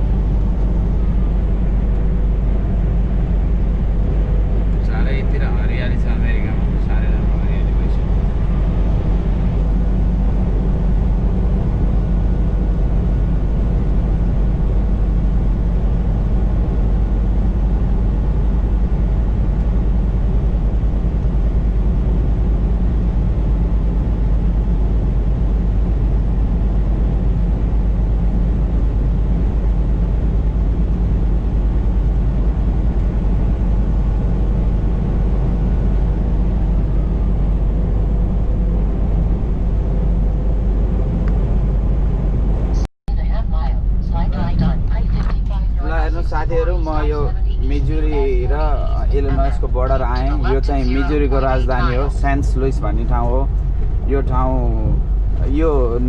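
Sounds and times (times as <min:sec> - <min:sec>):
road noise: 0:00.0 - 0:56.0
truck engine rumble: 0:00.0 - 0:56.0.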